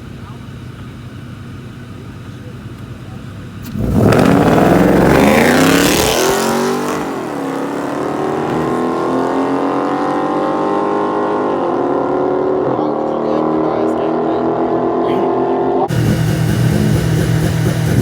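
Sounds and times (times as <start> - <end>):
car engine accelerating hard: 2.4 - 18.0.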